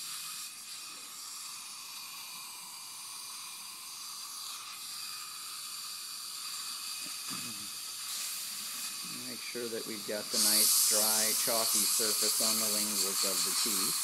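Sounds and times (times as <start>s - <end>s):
dental air and suction hissing: 0.0s - 14.0s.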